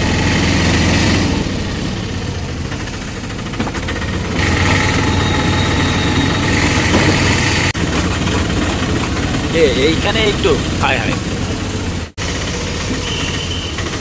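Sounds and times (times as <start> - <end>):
road noise: 0.0 - 14.0
small engine rumbling: 0.0 - 14.0.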